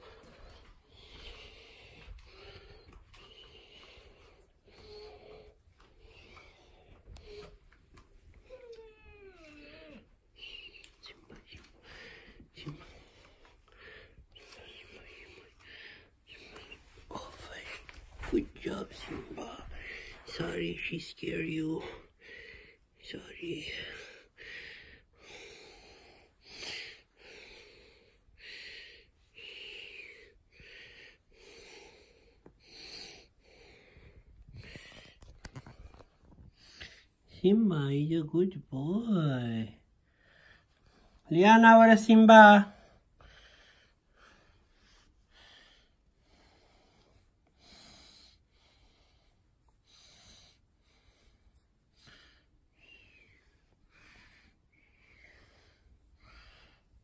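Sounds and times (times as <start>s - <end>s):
soft breaths close to microphone: 0.0s - 41.3s, 42.3s - 57.0s.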